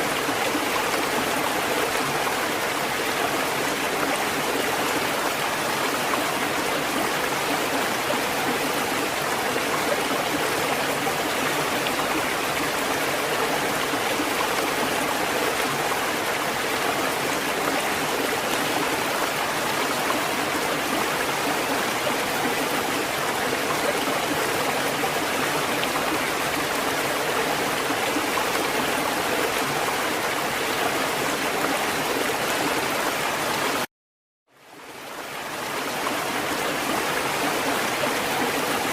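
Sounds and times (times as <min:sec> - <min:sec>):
water rushing: 0:00.0 - 0:33.9, 0:34.7 - 0:38.9.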